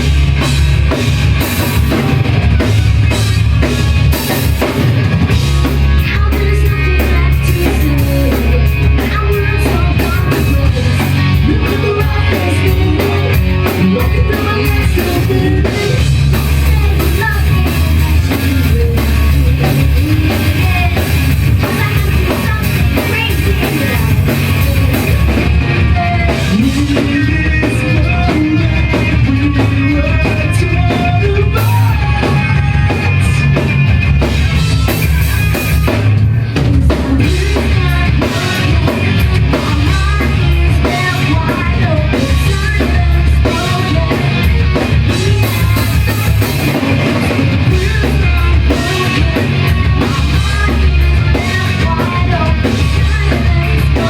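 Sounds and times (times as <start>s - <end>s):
drum kit: 0.0s - 54.0s
electric guitars: 0.0s - 54.0s
person singing: 5.6s - 33.6s, 36.7s - 54.0s.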